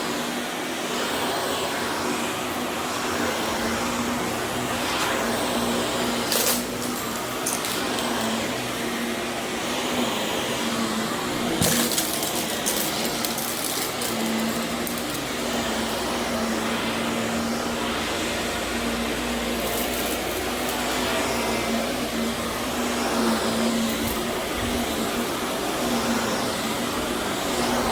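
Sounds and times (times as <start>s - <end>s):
vacuum cleaner running on carpet: 0.0s - 27.9s.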